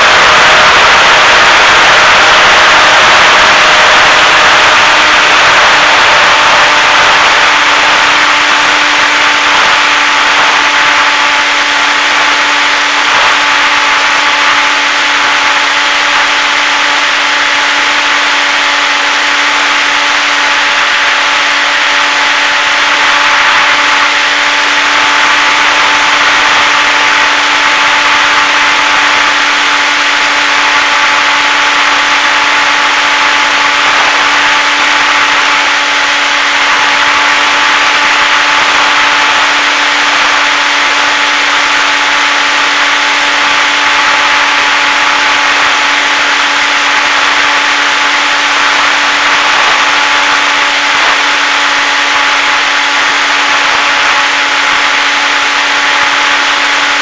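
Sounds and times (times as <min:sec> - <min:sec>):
electric motor propeller drone: 0:00.0 - 0:57.0
rushing air: 0:00.0 - 0:57.0.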